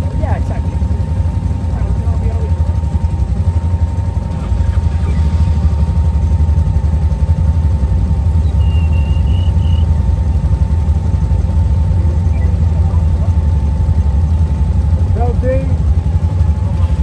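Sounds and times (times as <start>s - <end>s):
atv engine rumbling: 0.0s - 17.0s.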